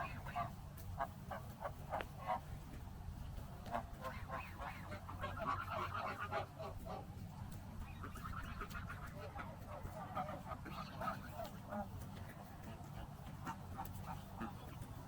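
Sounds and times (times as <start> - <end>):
waterfowl honking and quacking: 0.0 - 2.7, 3.6 - 15.0.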